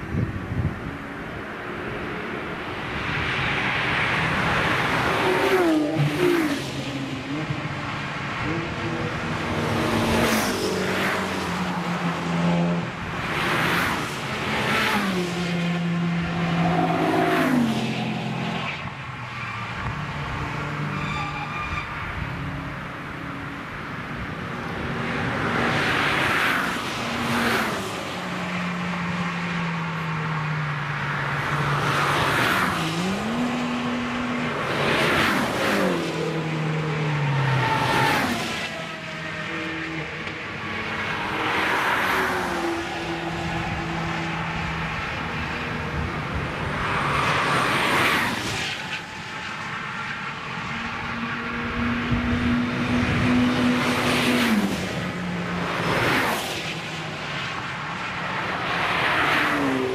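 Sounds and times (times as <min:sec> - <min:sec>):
cars passing at high speed: 0:00.0 - 0:59.9.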